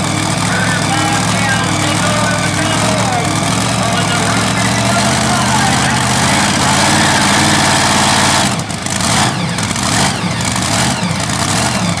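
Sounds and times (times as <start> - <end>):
tractor engine running hard: 0.0 - 12.0.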